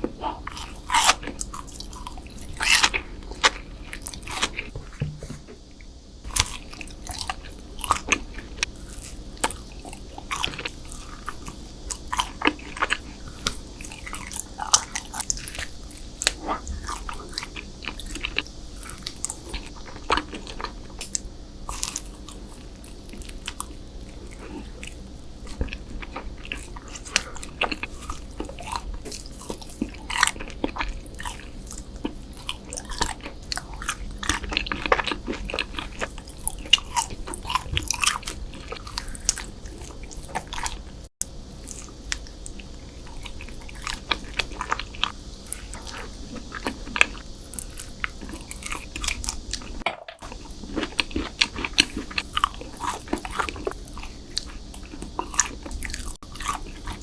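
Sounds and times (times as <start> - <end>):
person chewing crunchy desserts: 0.0 - 4.7, 6.2 - 57.0.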